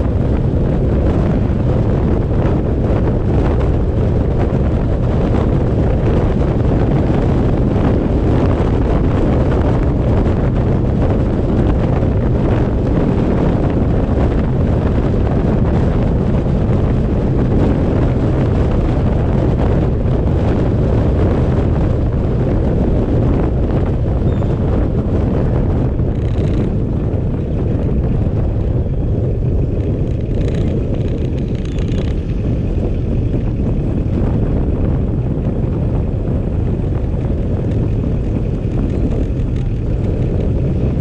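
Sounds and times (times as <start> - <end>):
vehicle road noise: 0.0 - 41.0
wind buffeting microphone: 0.0 - 41.0.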